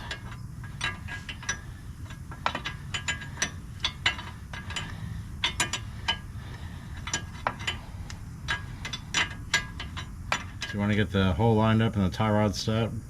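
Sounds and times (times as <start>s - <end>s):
ratchet wrench clicking: 0.0s - 10.8s
metal clinks: 0.0s - 11.0s.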